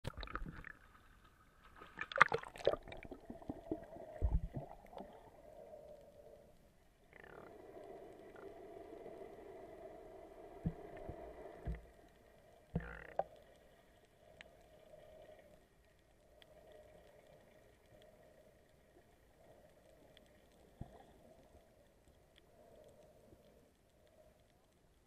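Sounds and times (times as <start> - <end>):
underwater low hum: 0.0 - 25.0.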